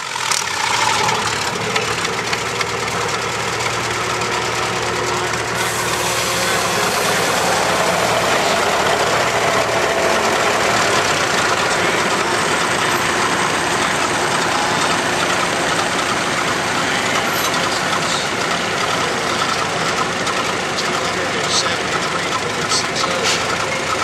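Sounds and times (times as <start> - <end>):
tractor engines under load: 0.0 - 24.0.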